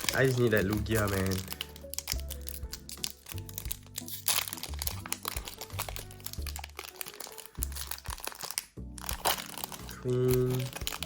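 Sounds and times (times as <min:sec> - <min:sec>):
background music: 0:00.0 - 0:11.0
foil wrapper crinkling and tearing: 0:00.0 - 0:11.0.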